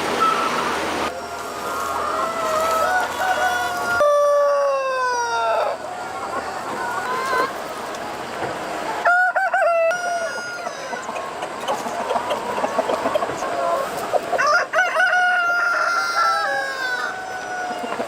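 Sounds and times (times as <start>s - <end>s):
chickens clucking: 0.0s - 18.0s
roosters crowing: 0.2s - 18.0s.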